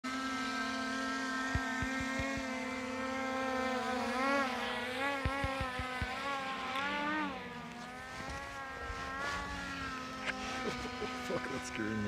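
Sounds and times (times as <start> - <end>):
drone propellers whining: 0.1 - 12.0.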